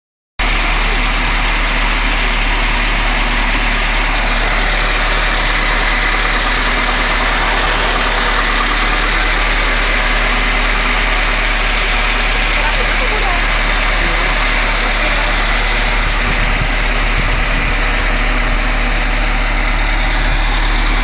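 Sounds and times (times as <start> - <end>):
truck engine idling: 0.4 - 21.0
cooling fan turning: 0.5 - 21.0.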